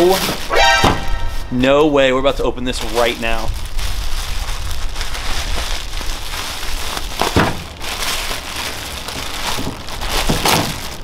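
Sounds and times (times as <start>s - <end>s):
loud plastic crackle: 0.0s - 0.5s, 2.6s - 11.0s
plastic wrapping crinkling: 0.0s - 0.5s, 2.6s - 11.0s.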